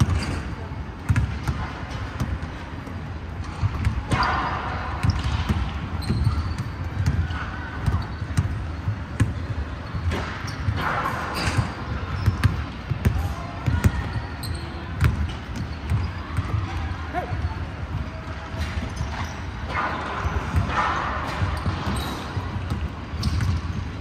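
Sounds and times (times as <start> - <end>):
basketballs bouncing on wooden floor: 1.0 - 24.0.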